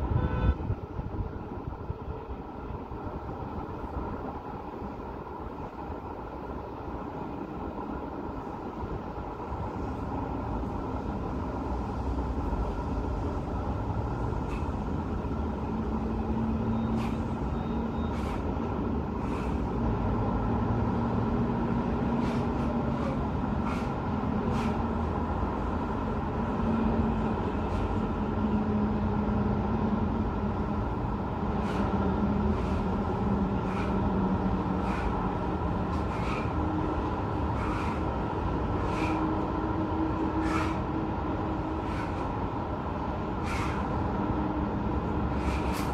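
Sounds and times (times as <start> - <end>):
passing traffic rumble: 0.0 - 45.9
vehicle engine low hum: 0.0 - 45.9.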